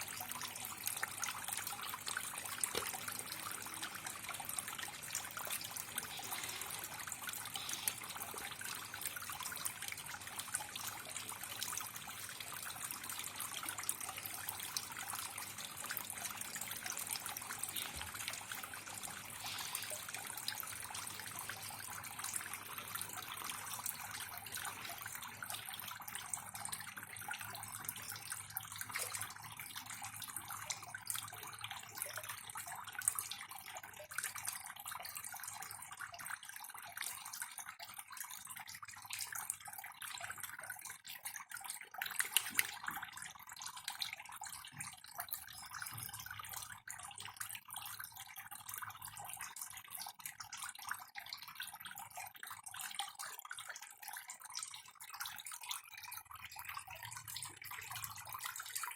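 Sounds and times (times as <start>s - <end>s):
small drips and pops: 0.0s - 58.9s
water trickling and splashing: 0.0s - 58.9s.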